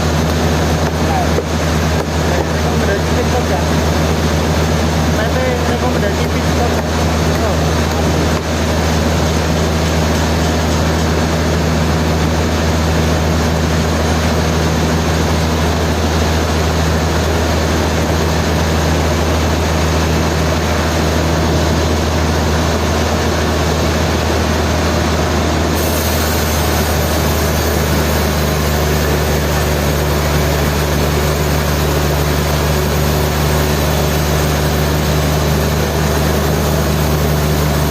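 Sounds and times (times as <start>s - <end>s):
sawmill machinery humming: 0.0s - 37.9s.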